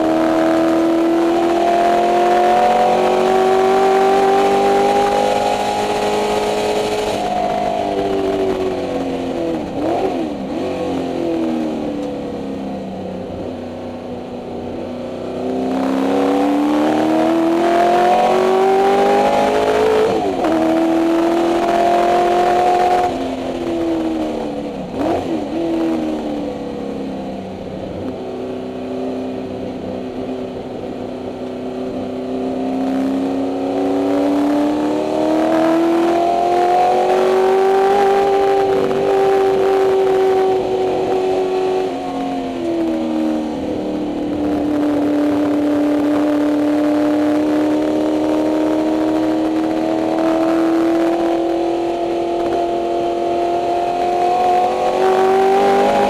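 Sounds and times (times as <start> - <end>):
race car engine revving: 0.0 - 12.6, 14.4 - 26.9, 30.1 - 56.0.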